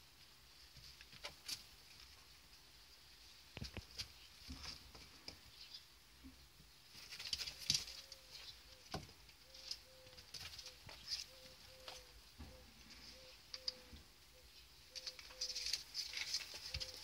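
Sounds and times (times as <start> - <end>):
rabbits scurrying in shavings: 0.0 - 17.0.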